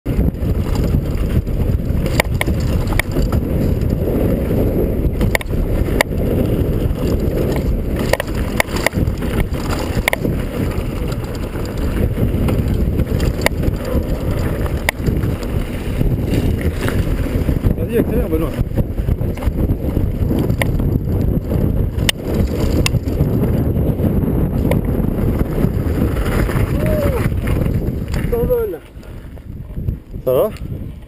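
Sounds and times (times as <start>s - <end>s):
bike tyre rumble on gravel: 0.0s - 31.0s
wind buffeting microphone: 0.0s - 31.0s
bike clicks and rattles: 0.1s - 31.0s.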